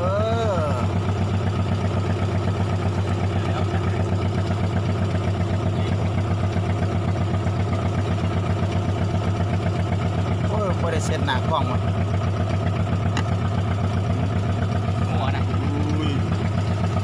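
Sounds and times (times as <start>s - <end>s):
boat engine running at low revs: 0.0s - 17.0s.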